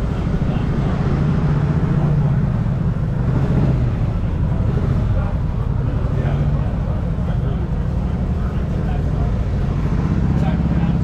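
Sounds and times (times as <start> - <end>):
engine running low hum: 0.0 - 11.0.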